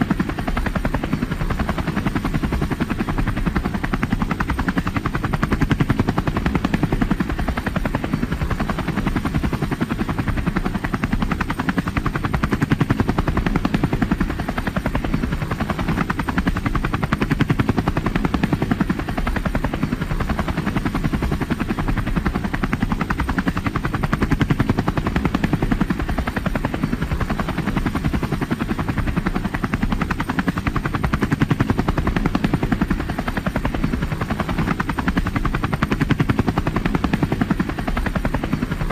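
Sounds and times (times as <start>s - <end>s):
helicopter engine drone: 0.0s - 38.9s
helicopter rotor beat: 0.0s - 38.9s.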